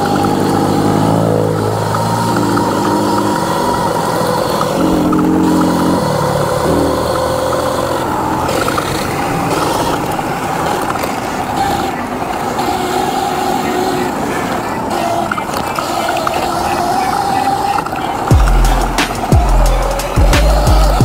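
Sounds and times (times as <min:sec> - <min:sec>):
dirt bike engine running: 0:00.0 - 0:21.0
rush of riding noise: 0:00.0 - 0:21.0.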